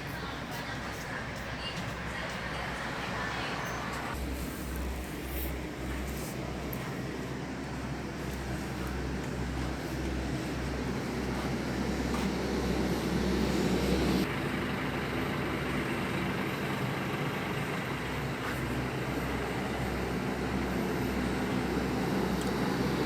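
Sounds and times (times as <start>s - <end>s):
bus diesel engine humming: 0.0s - 23.0s.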